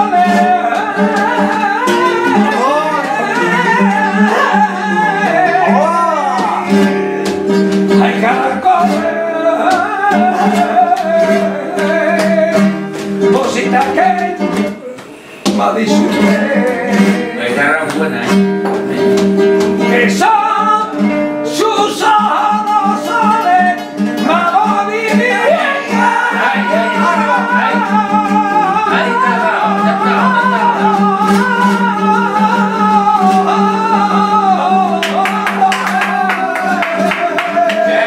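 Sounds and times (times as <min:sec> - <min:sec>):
acoustic guitar: 0:00.0 - 0:38.0
man singing: 0:00.0 - 0:38.0.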